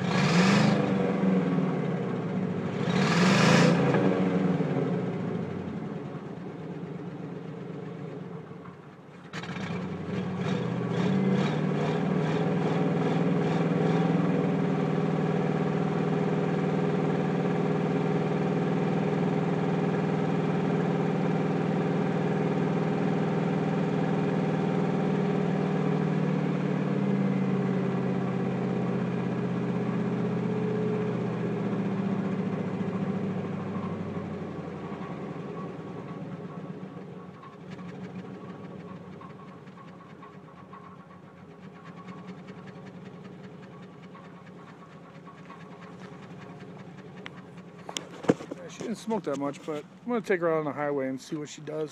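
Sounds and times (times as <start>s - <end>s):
car engine running: 0.0s - 51.9s.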